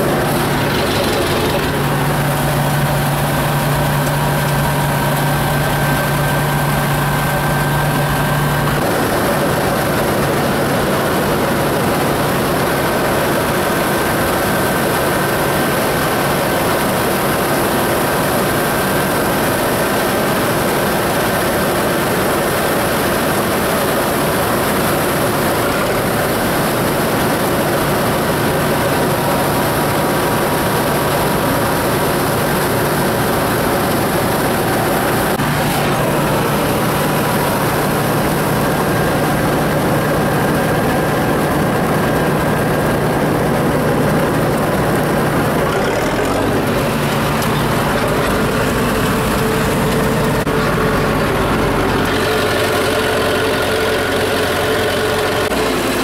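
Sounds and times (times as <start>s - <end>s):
auger pouring grain: 0.0s - 56.0s
combine harvester machine drone: 0.0s - 56.0s.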